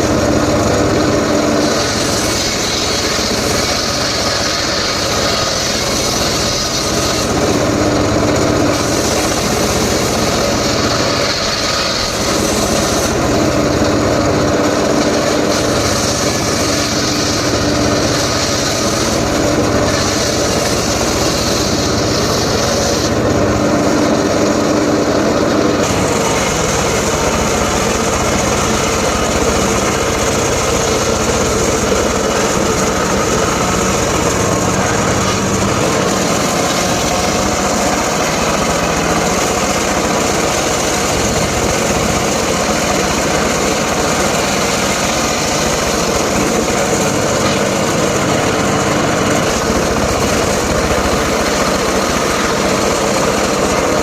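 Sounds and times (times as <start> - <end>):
small engine running at high speed: 0.0 - 54.0.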